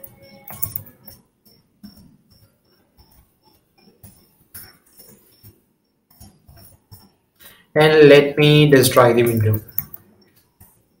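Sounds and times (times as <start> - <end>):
keyboard typing clicks: 0.0 - 7.2, 8.8 - 10.9.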